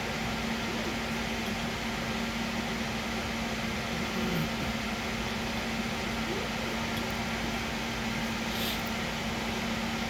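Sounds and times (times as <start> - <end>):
constant hiss: 0.0 - 10.0
steady low hum: 0.0 - 10.0.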